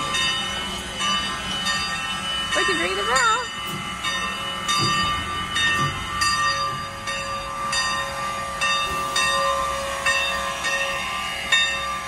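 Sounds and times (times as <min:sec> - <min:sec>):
locomotive bell ringing: 0:00.0 - 0:12.0.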